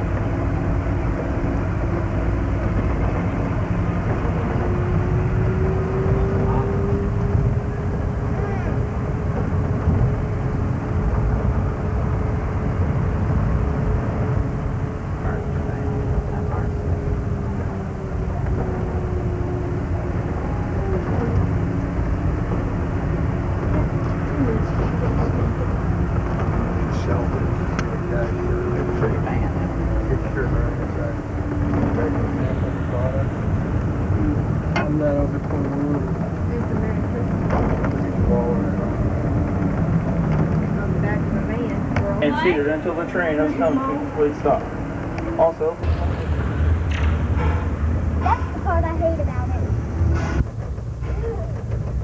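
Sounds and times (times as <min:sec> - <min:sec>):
ride train rumbling: 0:00.0 - 0:52.0.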